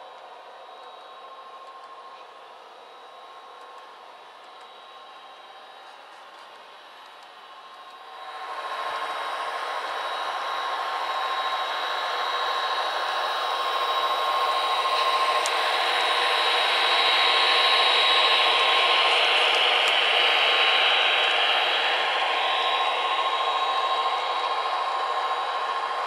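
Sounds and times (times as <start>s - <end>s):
model train motor whining: 4.4s - 26.0s.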